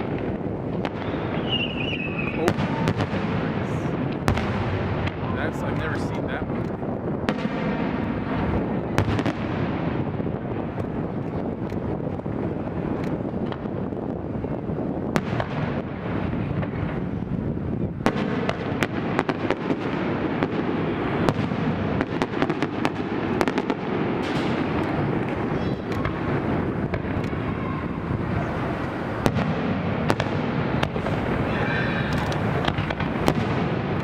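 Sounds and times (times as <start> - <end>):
fireworks crackling bangs: 0.0 - 34.0.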